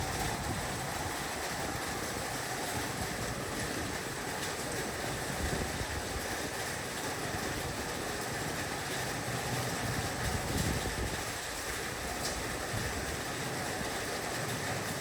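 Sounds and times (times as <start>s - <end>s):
heavy rain on a roof: 0.0s - 15.0s.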